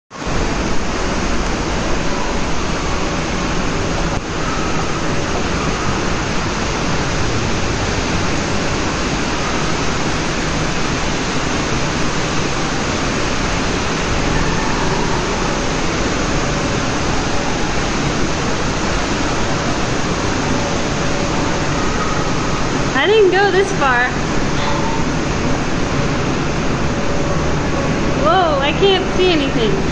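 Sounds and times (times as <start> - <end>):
rush of falling water: 0.1 - 29.9.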